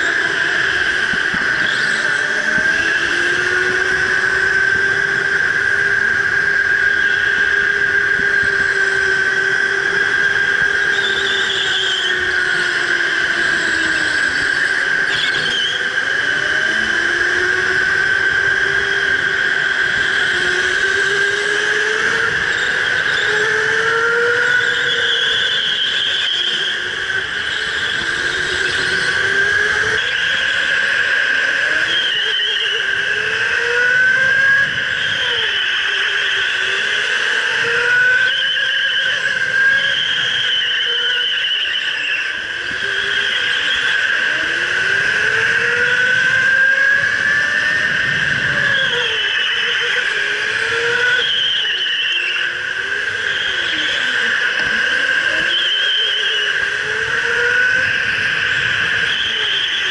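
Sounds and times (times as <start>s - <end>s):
electric go-kart motor whining: 0.0s - 59.9s.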